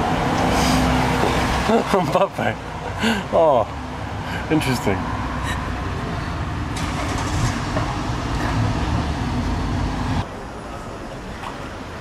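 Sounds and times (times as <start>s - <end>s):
road noise: 0.0s - 12.0s
vehicle rumbling: 0.0s - 12.0s.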